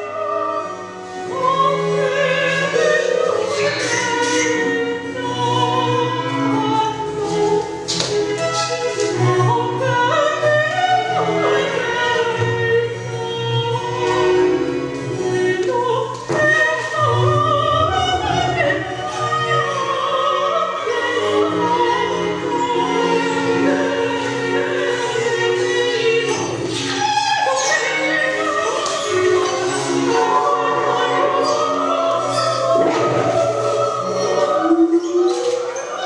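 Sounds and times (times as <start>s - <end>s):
classical accompaniment: 0.0s - 36.0s
operatic singing: 0.0s - 36.0s.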